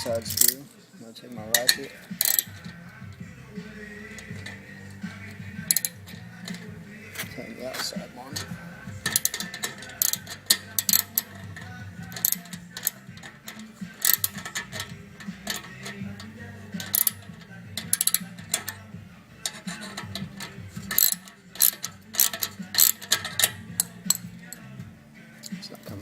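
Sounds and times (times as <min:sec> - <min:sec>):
socket ratchet clicking: 0:00.0 - 0:00.6, 0:01.5 - 0:07.3, 0:07.9 - 0:24.7.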